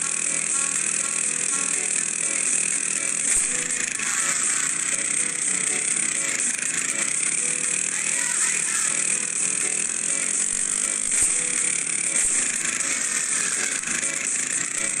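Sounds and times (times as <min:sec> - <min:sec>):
harsh mechanical buzzing and rattling: 0:00.0 - 0:15.0.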